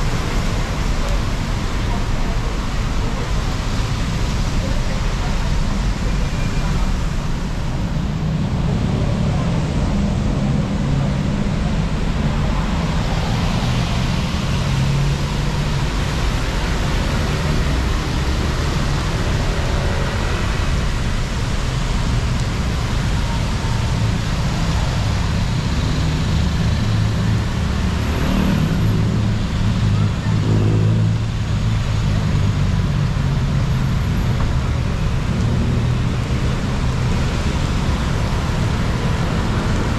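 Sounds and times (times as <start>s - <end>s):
rain falling: 0.0s - 39.9s
vehicles passing on wet road: 0.0s - 39.9s.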